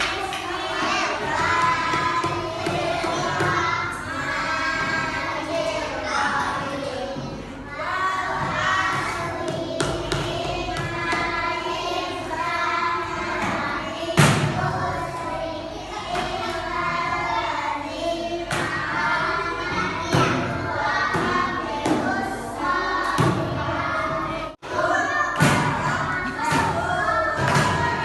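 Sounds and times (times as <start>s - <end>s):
children singing together: 0.0s - 28.0s.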